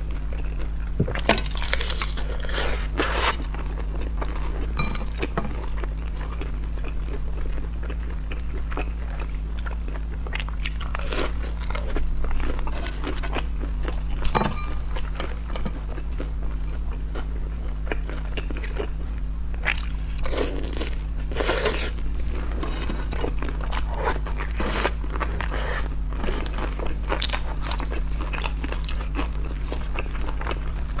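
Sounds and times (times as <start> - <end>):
chewing with wet mouth sounds: 0.0 - 31.0
low hum: 0.0 - 31.0.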